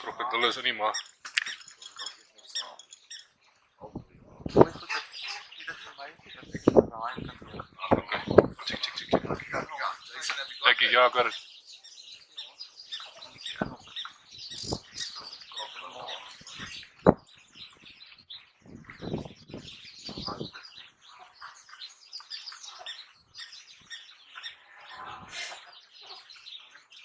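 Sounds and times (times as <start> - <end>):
wild dogs twittering and chirping: 0.0 - 27.0.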